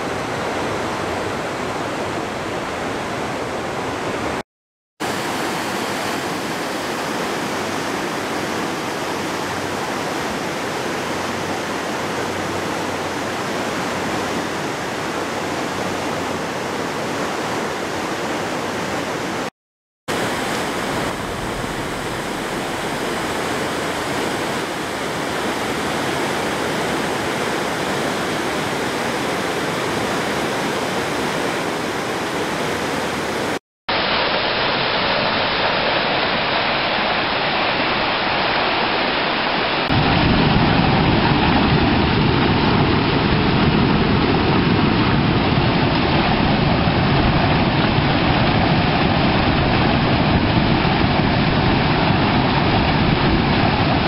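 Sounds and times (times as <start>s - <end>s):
river rushing over rocks: 5.0s - 19.5s, 20.1s - 54.0s.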